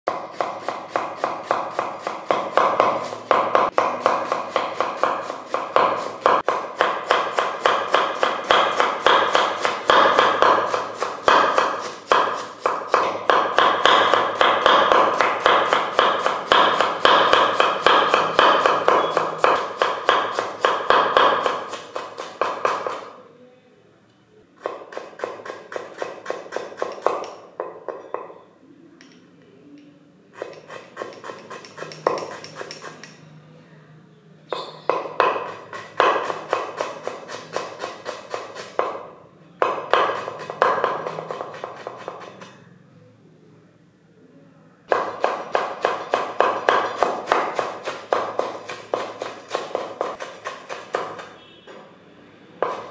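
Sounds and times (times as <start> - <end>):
knife chopping on wooden board: 0.1 - 23.1, 24.6 - 28.3, 30.4 - 33.1, 34.9 - 42.5, 44.9 - 51.3, 52.6 - 52.9.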